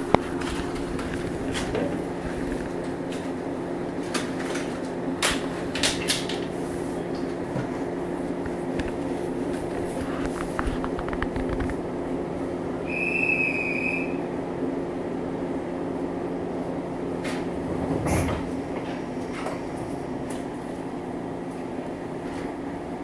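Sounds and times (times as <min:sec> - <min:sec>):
train electrical equipment humming: 0:00.0 - 0:23.0.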